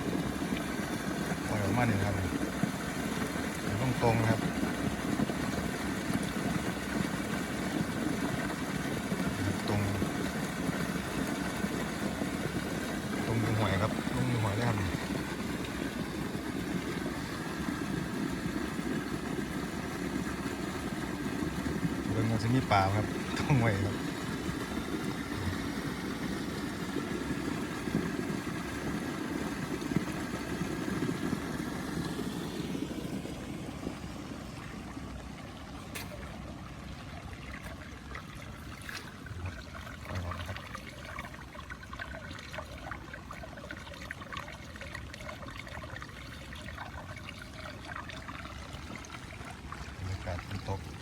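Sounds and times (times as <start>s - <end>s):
floodwater running: 0.0s - 51.0s.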